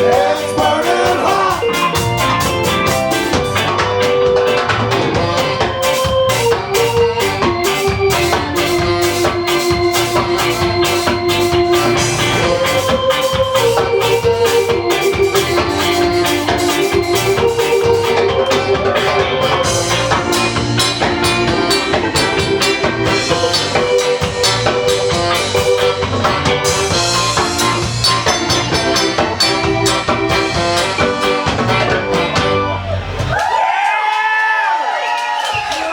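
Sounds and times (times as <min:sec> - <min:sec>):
sustained melody line: 0:00.0 - 0:32.8
drum kit with cymbals: 0:00.0 - 0:33.3.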